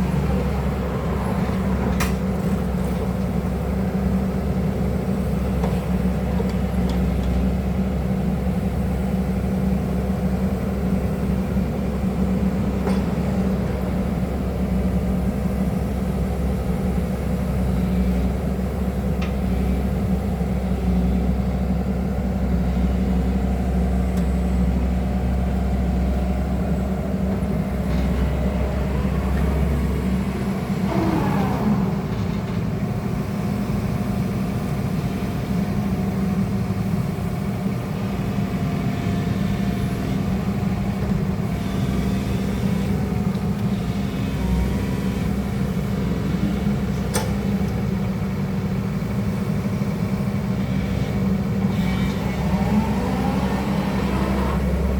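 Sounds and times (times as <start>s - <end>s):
diesel engine droning: 0.0s - 54.9s.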